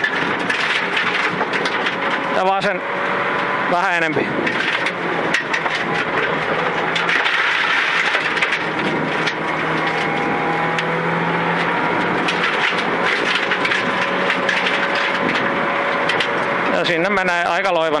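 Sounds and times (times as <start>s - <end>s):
car engine under load: 0.0s - 18.0s.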